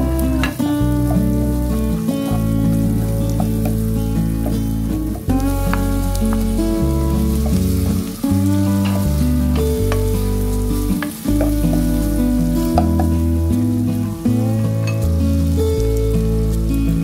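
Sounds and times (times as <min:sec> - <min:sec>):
food sizzling in a pot: 0:00.0 - 0:17.0
slow chord music: 0:00.0 - 0:17.0.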